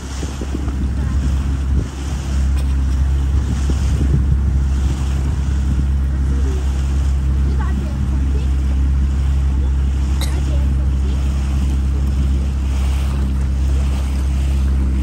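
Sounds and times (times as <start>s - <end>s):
motorboat engine drone: 0.0s - 15.0s
water rushing from wake: 0.0s - 15.0s
wind buffeting microphone: 0.0s - 15.0s.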